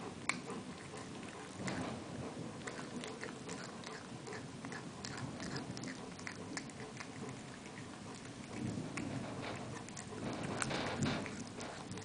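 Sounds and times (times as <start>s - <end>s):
cat chewing with clicking bites: 0.0s - 12.0s.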